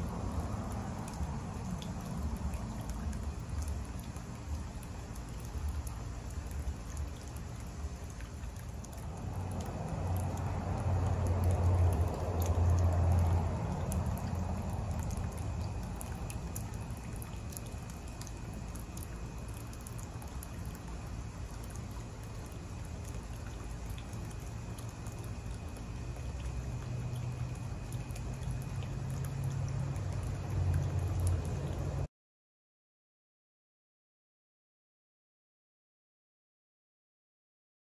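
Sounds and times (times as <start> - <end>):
fountain splashing into basin: 0.0 - 32.1.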